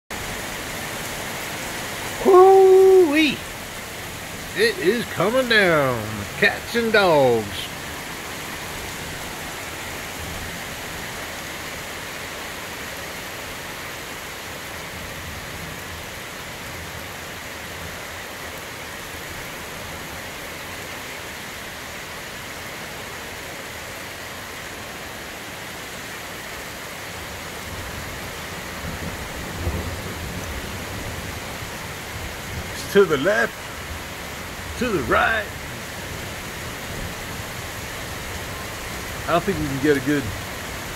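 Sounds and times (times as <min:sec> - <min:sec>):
heavy rain pouring: 0:00.1 - 0:40.9.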